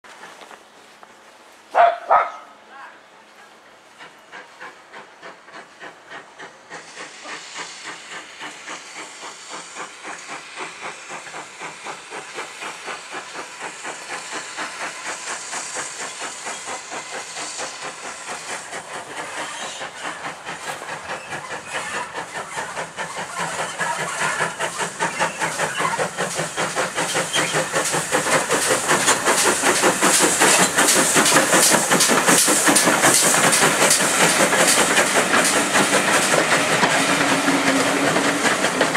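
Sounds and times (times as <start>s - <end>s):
steam locomotive chuffing: 1.4s - 38.9s
hissing steam: 2.5s - 38.9s.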